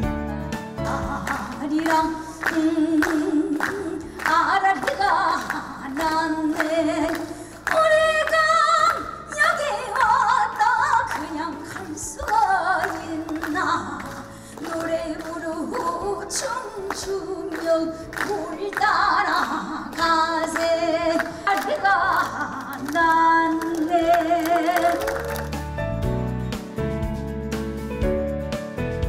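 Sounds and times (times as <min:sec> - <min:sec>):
background music: 0:00.0 - 0:29.0
woman singing folk song: 0:00.9 - 0:25.2.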